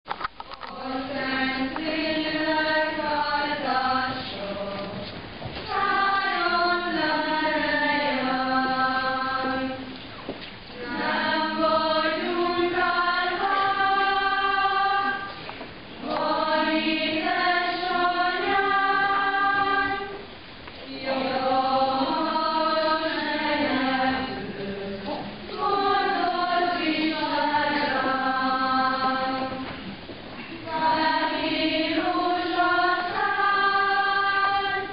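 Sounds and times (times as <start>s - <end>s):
group singing a slow hymn: 0.4s - 10.0s, 10.7s - 34.9s.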